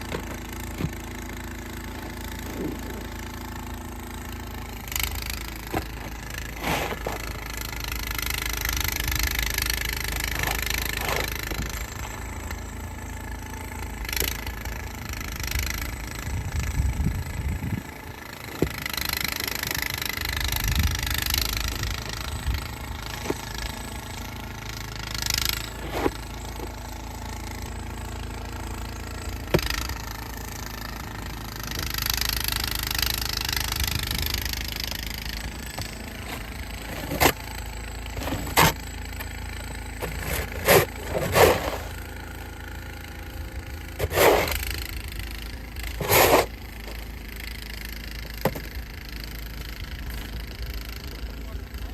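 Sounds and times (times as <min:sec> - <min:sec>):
engine running with low rumble: 0:00.0 - 0:51.9.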